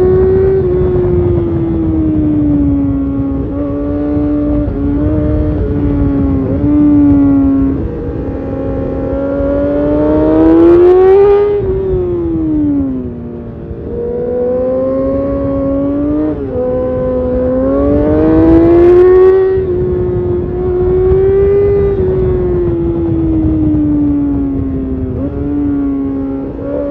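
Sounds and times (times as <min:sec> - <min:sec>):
motorcycle engine revving: 0:00.0 - 0:26.9
wind and road noise: 0:00.0 - 0:26.9.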